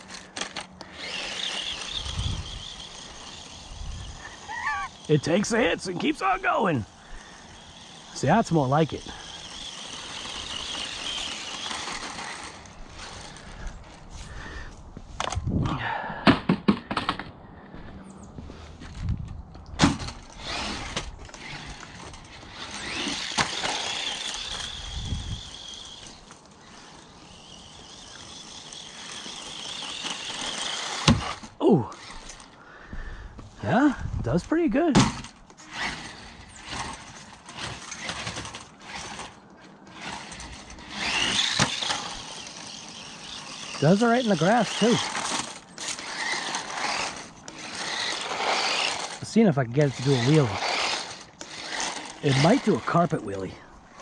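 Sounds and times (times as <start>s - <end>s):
electric motor whining: 0.0s - 15.8s, 19.9s - 54.0s.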